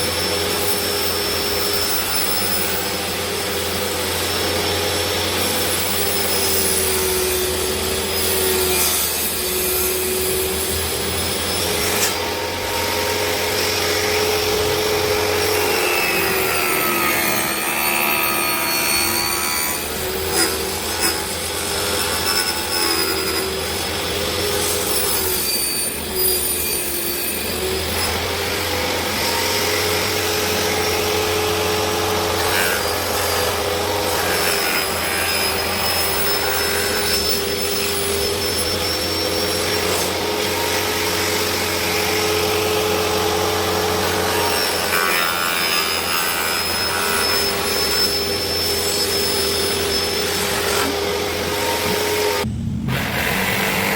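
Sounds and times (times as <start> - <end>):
power tool motor whining: 0.0 - 53.9.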